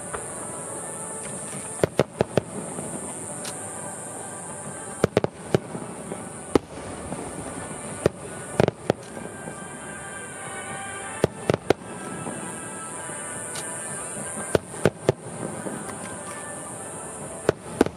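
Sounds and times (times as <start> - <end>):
firework shells bursting: 0.0 - 17.9.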